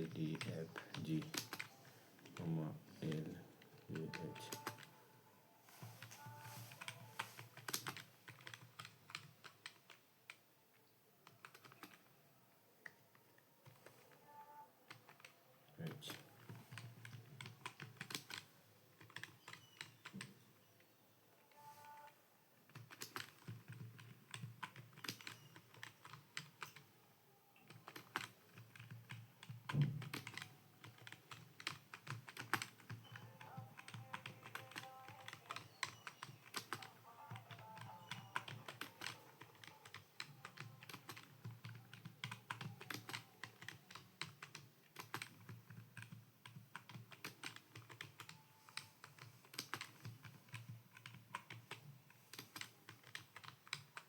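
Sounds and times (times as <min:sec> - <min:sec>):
keyboard typing: 0:00.0 - 0:12.2, 0:12.8 - 0:20.9, 0:21.5 - 0:27.0, 0:27.6 - 0:54.0.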